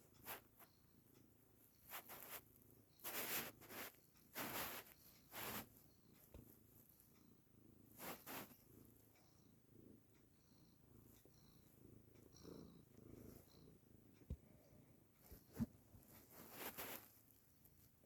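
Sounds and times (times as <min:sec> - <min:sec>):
cat purring softly: 0:00.0 - 0:18.0.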